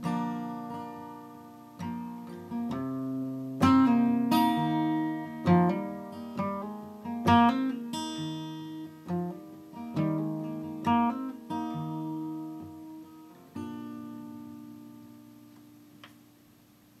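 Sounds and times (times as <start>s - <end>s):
acoustic guitar strumming: 0.0s - 16.5s.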